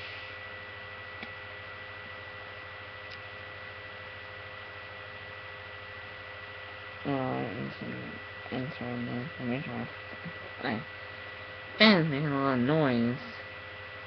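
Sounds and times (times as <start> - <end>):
electrical hum and hiss: 0.0 - 14.0
high whine: 0.0 - 14.0.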